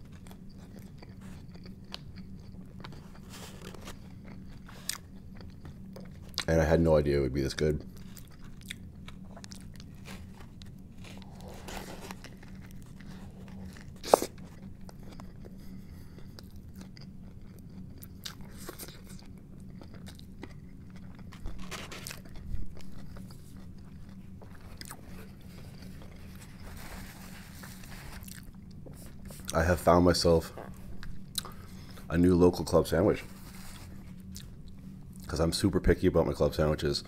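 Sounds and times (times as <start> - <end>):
chewing crunchy sandwich: 0.0 - 35.4.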